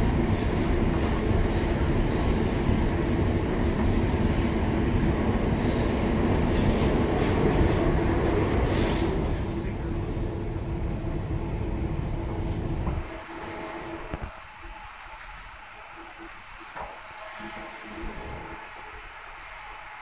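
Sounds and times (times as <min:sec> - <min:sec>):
steady train hum: 0:00.0 - 0:20.0.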